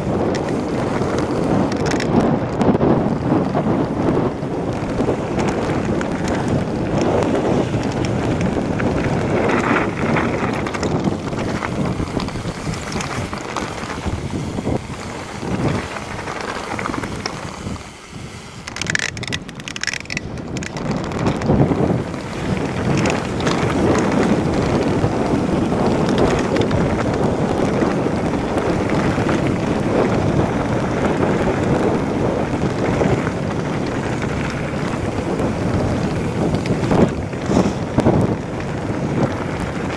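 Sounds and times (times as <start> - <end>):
tyres on gravel: 0.0 - 39.9
wind buffeting microphone: 0.0 - 39.9.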